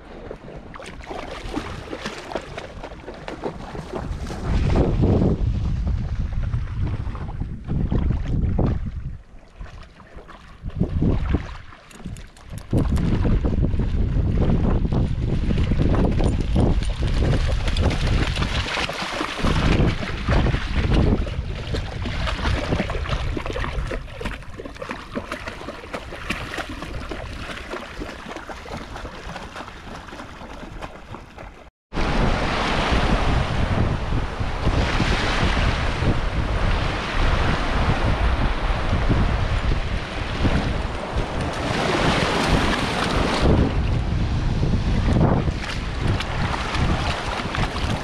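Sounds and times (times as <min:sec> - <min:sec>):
rushing water and surf: 0:00.0 - 0:06.4, 0:13.0 - 0:48.0
wind buffeting microphone: 0:01.4 - 0:09.4, 0:10.5 - 0:48.0.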